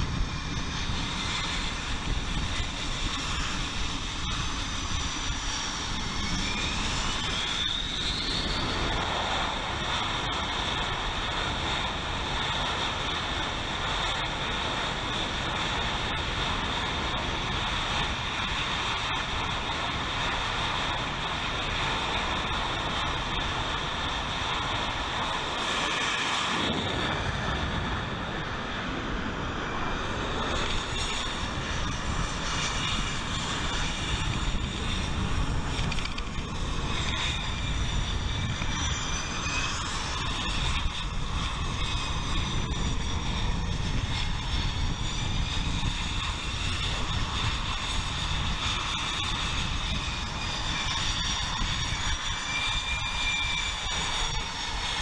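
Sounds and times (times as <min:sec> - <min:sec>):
jet engines running at high power: 0:00.0 - 0:55.0.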